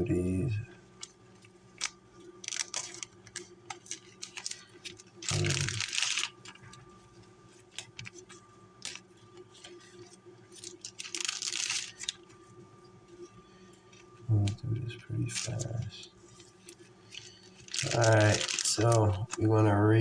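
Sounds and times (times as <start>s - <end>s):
card sleeves rustling: 1.8s - 12.4s, 13.9s - 19.8s.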